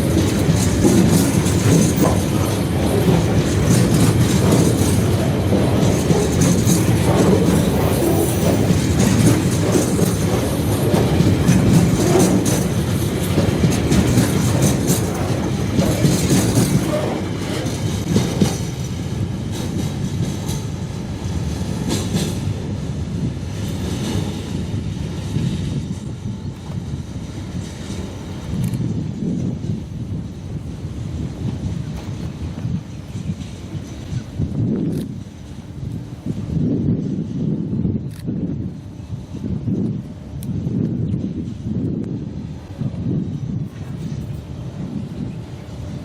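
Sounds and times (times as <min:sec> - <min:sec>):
train wheels clicking over rails: 0:00.0 - 0:46.0.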